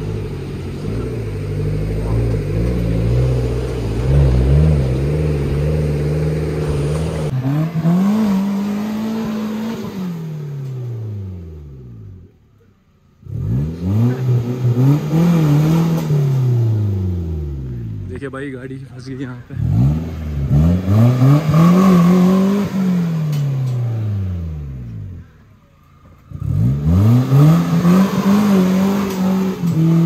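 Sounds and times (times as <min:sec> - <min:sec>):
vehicle engine revving: 0:00.0 - 0:30.0.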